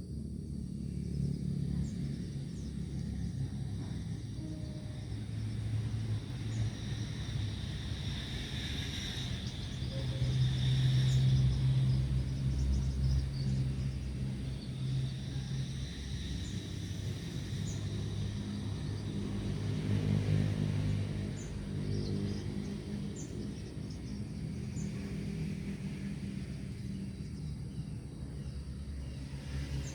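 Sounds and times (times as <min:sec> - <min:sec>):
distant engine rumble: 0:00.0 - 0:29.9.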